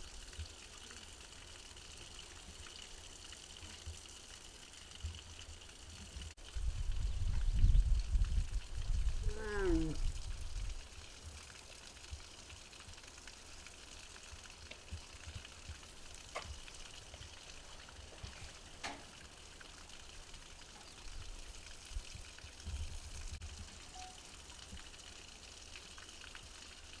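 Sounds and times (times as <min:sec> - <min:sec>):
faint outdoor hiss: 0:00.0 - 0:27.0.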